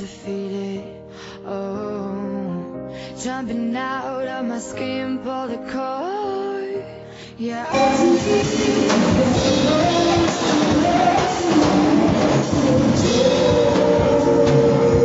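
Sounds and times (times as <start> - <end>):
pop-rock song with singer: 0.0 - 15.0.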